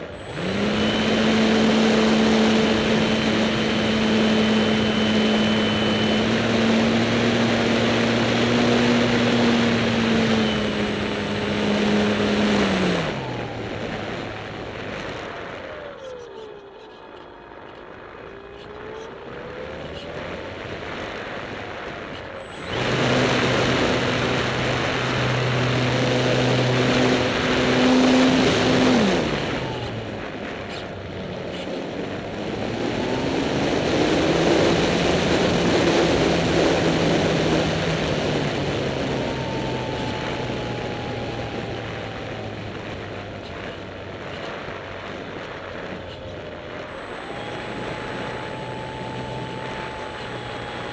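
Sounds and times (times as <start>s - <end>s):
model airplane electric motor: 0.0s - 20.8s, 22.0s - 50.9s.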